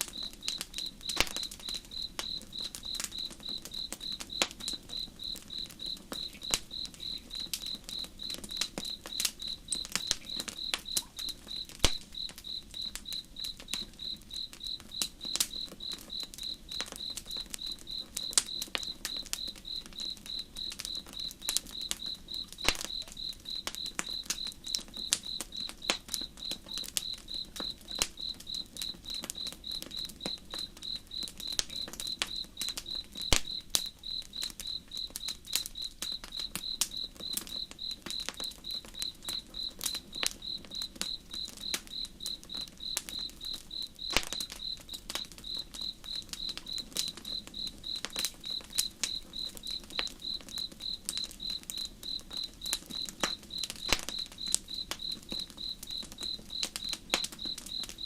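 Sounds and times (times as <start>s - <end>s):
campfire crackling and popping: 0.0s - 58.0s
cricket chirping: 0.0s - 58.0s.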